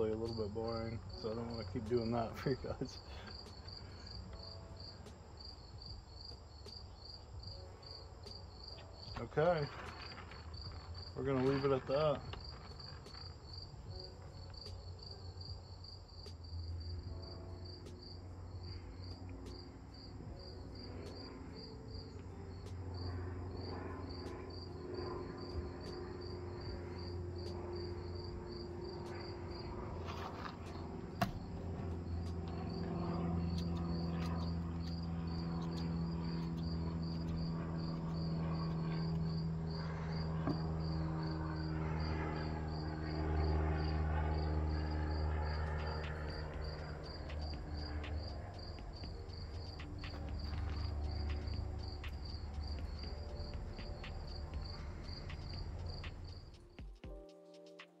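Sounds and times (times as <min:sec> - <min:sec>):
insect chirping: 0:00.0 - 0:56.8
low steady hum: 0:00.0 - 0:56.8.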